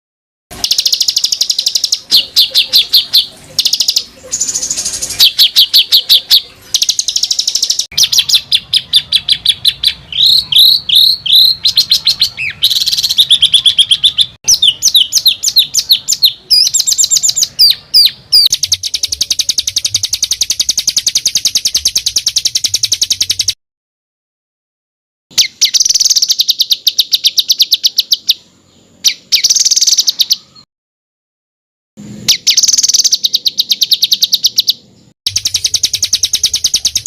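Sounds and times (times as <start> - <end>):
songbird harsh notes and trills: 0.5 - 23.6, 25.3 - 30.7, 32.0 - 37.0.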